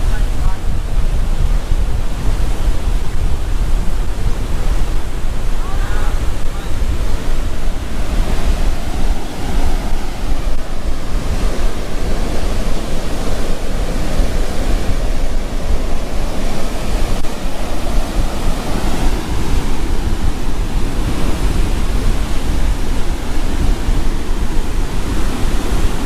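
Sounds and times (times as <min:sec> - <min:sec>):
storm wind: 0:00.0 - 0:26.0
surf breaking on beach: 0:00.0 - 0:26.0
wind buffeting microphone: 0:00.0 - 0:26.0.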